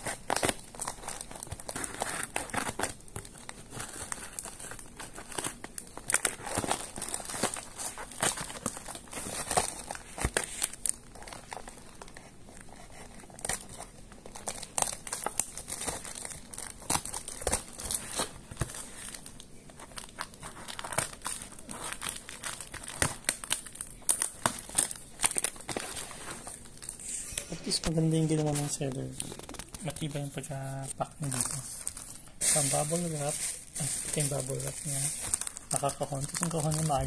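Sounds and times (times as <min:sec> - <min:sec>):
plastic wrapping crinkling: 0:00.0 - 0:37.0.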